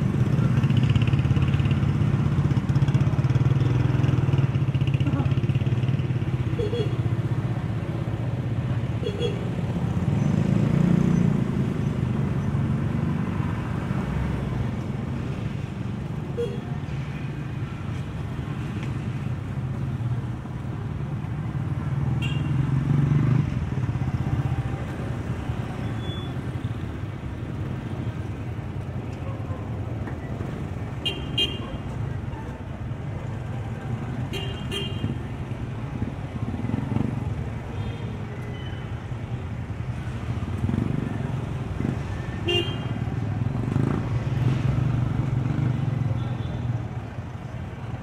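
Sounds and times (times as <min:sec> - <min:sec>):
motorcycle engines passing: 0:00.0 - 0:48.0.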